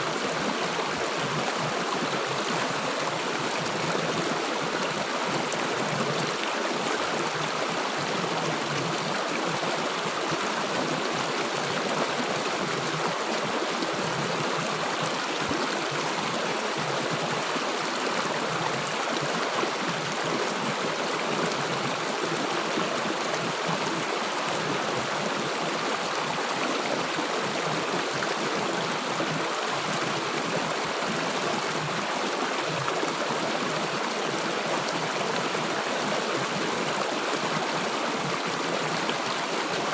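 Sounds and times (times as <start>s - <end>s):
river water rushing and gurgling: 0.0s - 39.9s.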